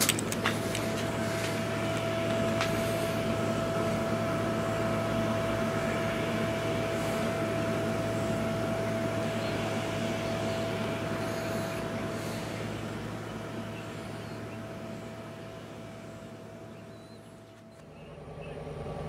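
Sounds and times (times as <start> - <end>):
locomotive diesel engine droning: 0.0 - 19.0.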